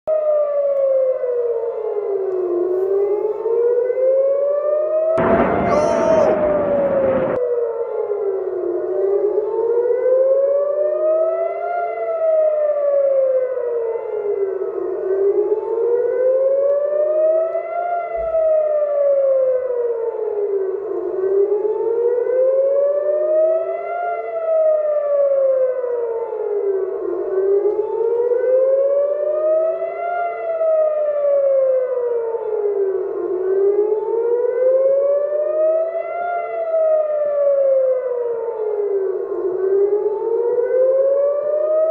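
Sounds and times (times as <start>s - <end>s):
air-raid siren wailing: 0.1s - 41.9s.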